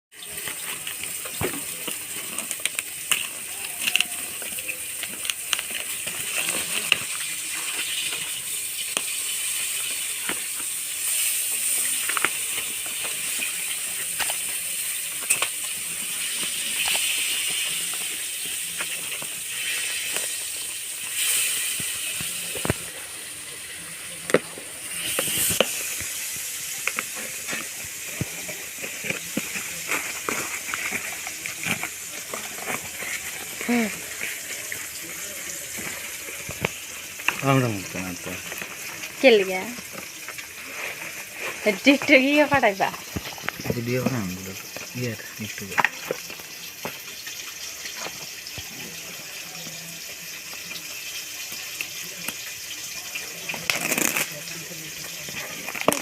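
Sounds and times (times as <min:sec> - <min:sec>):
steady hiss: 0:06.0 - 0:55.9.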